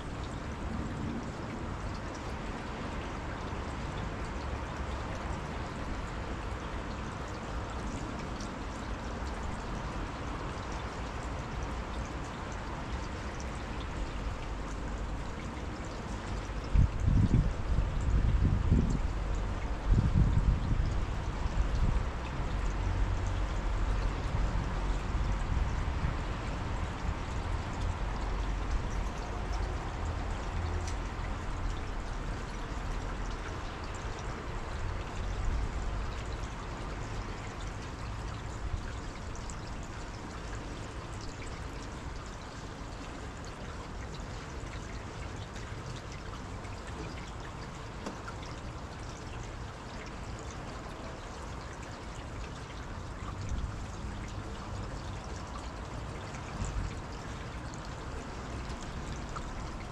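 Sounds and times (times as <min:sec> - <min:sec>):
rushing trickling water: 0:00.0 - 0:59.9.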